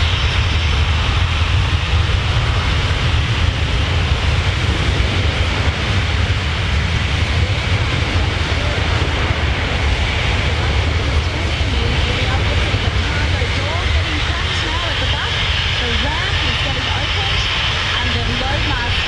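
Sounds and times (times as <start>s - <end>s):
deep rumble: 0.0s - 19.0s
jet engines running: 0.0s - 19.0s.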